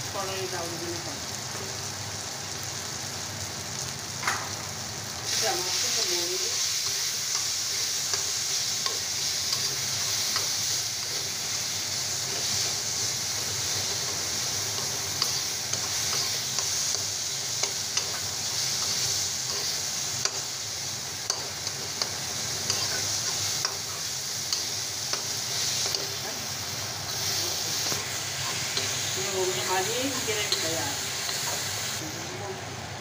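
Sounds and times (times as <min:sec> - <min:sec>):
masala sizzling in oil: 0:00.0 - 0:33.0.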